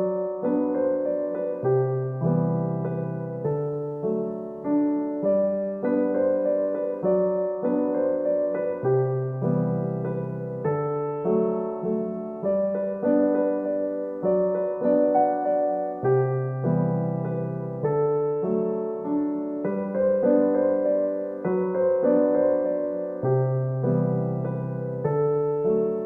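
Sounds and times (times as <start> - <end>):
soft piano chords: 0.0 - 26.0.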